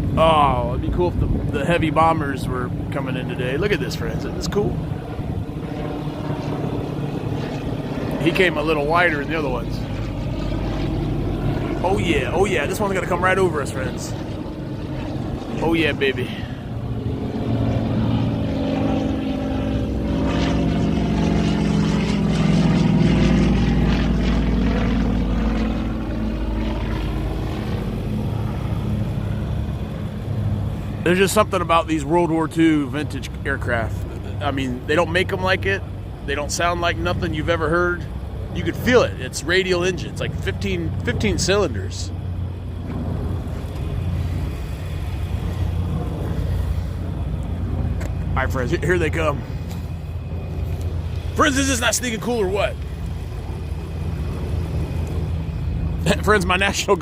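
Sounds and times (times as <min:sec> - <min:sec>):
aircraft radial engines rumbling: 0:00.0 - 0:57.0
propeller plane flying overhead: 0:00.0 - 0:57.0.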